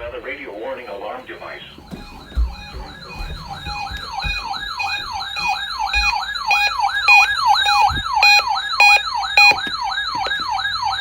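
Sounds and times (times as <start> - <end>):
sweeping siren tone: 1.4 - 11.0.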